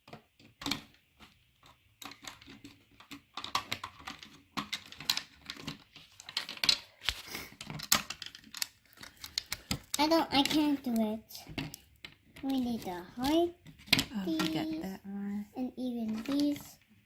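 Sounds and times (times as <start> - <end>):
plastic pieces clicking and tapping: 0.0 - 14.9, 16.0 - 17.0.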